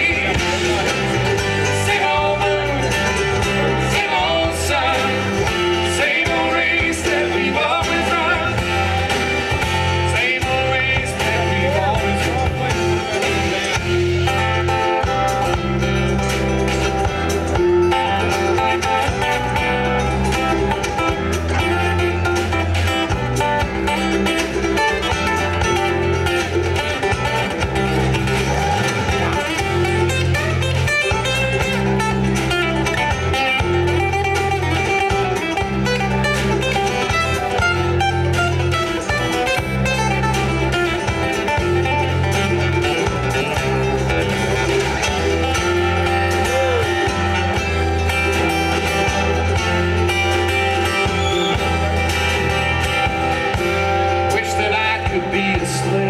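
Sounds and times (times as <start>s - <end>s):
acoustic guitar: 0.0s - 56.0s
electric bass: 0.0s - 56.0s
mandolin: 0.0s - 56.0s.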